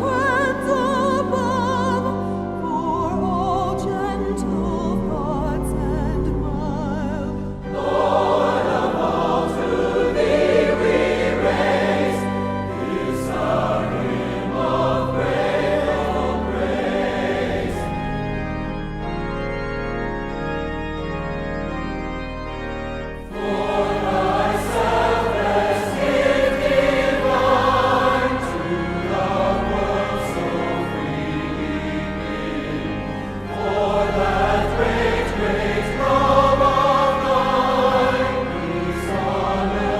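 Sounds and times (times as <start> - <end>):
choir singing a hymn: 0.0 - 19.1, 23.2 - 39.9
organ chords: 0.0 - 39.9.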